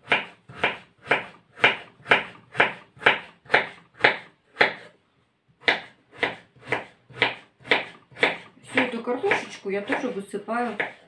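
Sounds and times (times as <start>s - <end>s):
knife slicing potatoes on board: 0.0s - 4.9s, 5.6s - 11.0s.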